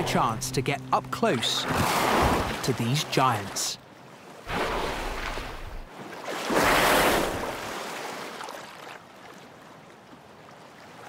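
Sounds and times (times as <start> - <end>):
sea water and wind noise: 0.0 - 11.0.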